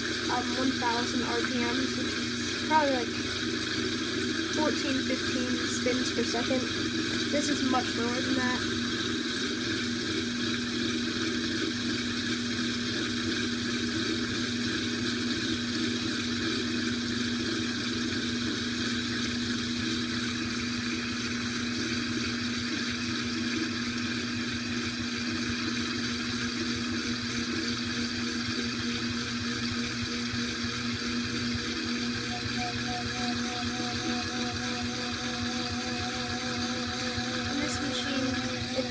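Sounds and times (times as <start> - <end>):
washing machine drum spinning: 0.0 - 38.9.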